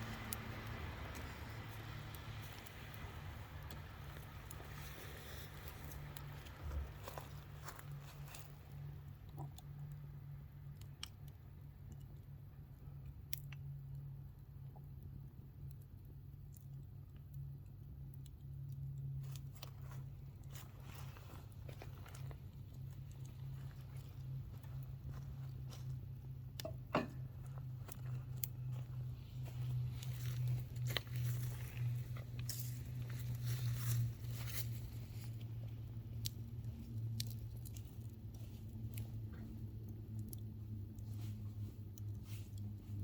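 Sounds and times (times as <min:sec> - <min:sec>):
campfire crackling and popping: 0:00.0 - 0:43.0
low steady hum: 0:00.0 - 0:43.0.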